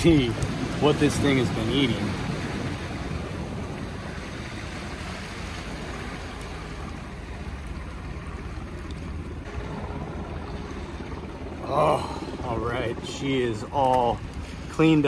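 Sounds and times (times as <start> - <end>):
ocean surf: 0.0 - 15.0
wind rumble on microphone: 0.0 - 15.0.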